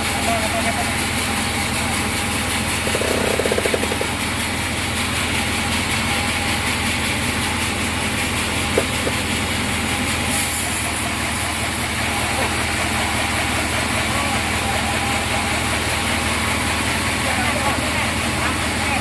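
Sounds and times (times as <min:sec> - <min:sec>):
sawmill machinery humming: 0:00.0 - 0:19.0.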